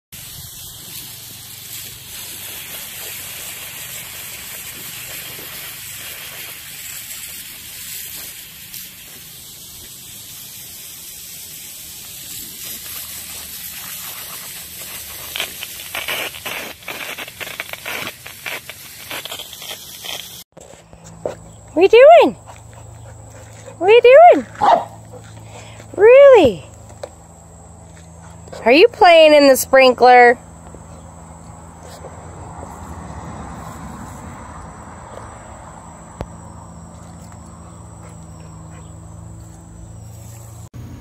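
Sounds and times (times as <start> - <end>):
garden hose spraying water: 0.0 - 41.0.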